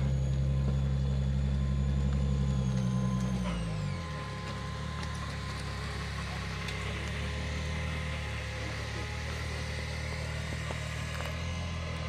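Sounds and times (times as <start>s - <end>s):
buggy engine running at low revs: 0.0s - 12.0s.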